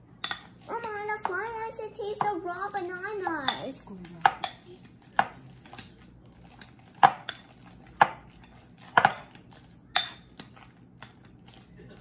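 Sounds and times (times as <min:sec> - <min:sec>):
masher mashing bananas: 0:00.0 - 0:12.0.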